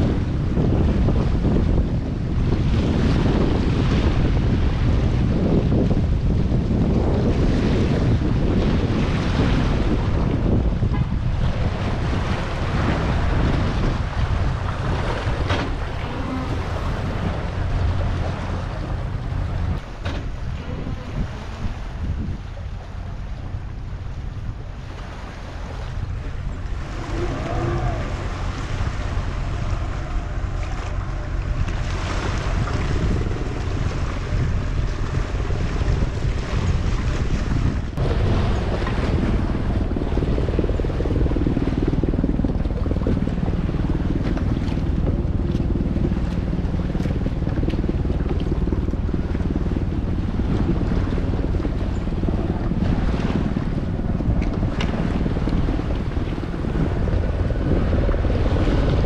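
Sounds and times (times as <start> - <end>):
strong wind buffeting microphone: 0.0 - 59.0
waves washing: 0.0 - 59.0.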